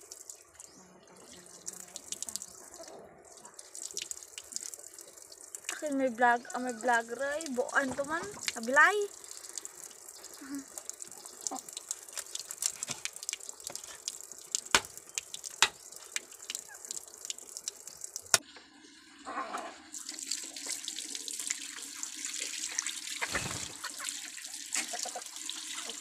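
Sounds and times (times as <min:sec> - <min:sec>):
tap running with water splashing: 0:00.0 - 0:18.7, 0:19.9 - 0:26.0.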